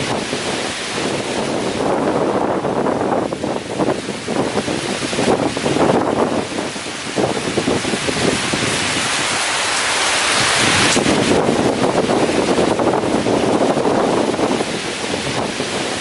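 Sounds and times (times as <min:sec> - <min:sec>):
gusting wind through trees: 0:00.0 - 0:16.0
heavy rain: 0:00.0 - 0:16.0.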